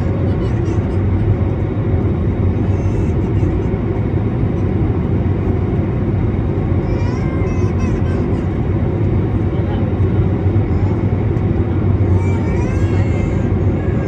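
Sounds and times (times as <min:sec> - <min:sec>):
airplane cabin engine and airflow noise: 0:00.0 - 0:14.0.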